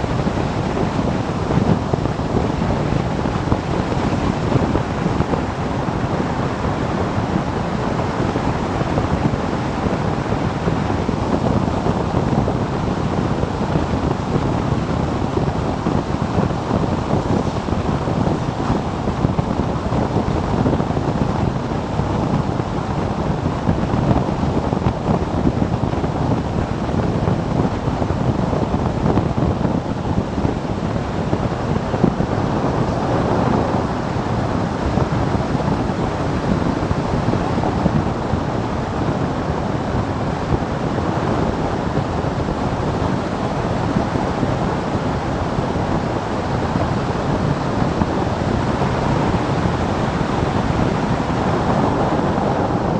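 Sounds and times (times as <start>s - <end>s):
wind rush on microphone: 0.0s - 52.9s.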